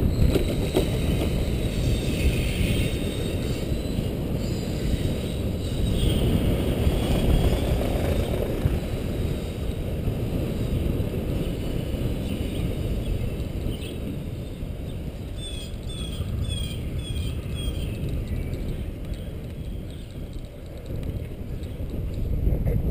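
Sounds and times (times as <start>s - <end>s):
wind rumbling on microphone: 0.0s - 22.9s.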